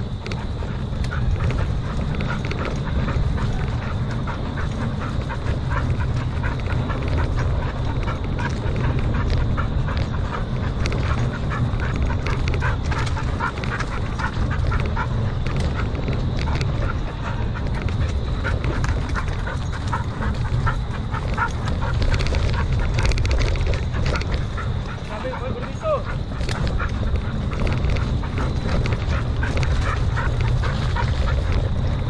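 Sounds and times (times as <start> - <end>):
bike tyres rumbling on dirt: 0.0 - 32.0
dog running: 0.0 - 32.0
wind: 0.0 - 32.0.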